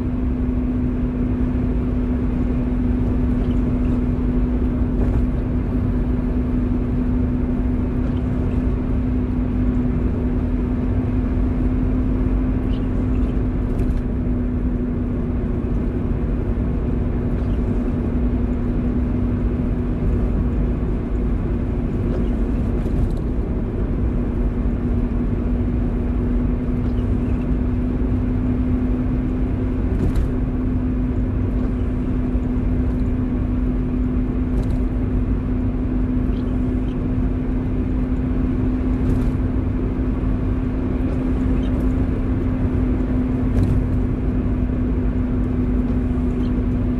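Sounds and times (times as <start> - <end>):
car engine and road rumble: 0.0 - 46.9
steady low hum: 0.0 - 46.9.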